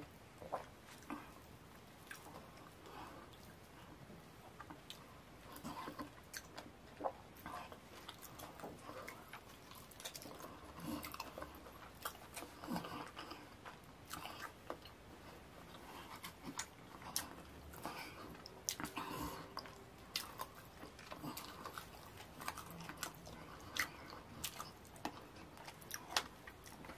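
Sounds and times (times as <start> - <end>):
wet chewing: 0.4 - 26.9.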